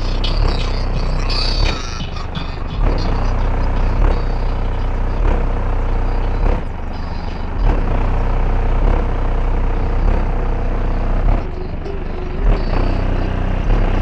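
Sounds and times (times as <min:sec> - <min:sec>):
bass-heavy music from subwoofers: 0:00.0 - 0:14.0.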